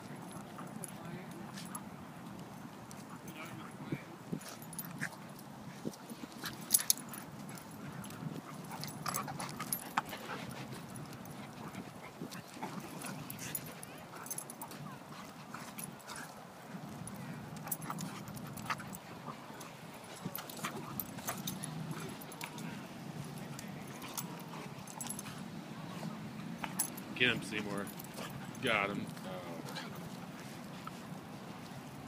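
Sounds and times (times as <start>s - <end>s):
dogs play-wrestling: 0.0s - 32.0s.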